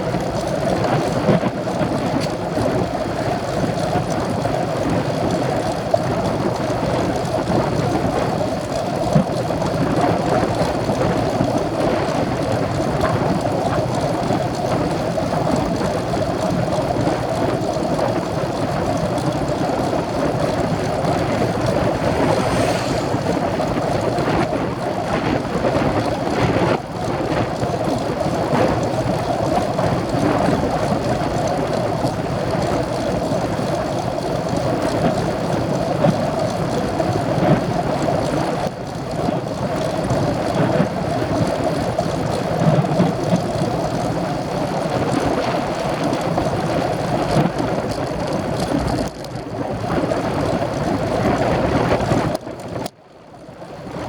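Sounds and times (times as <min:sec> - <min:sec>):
wind rush on microphone: 0:00.0 - 0:54.0.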